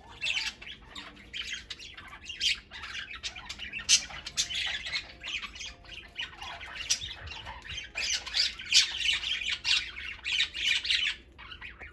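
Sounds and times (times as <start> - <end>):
budgerigars chattering and squawking: 0.0 - 11.9.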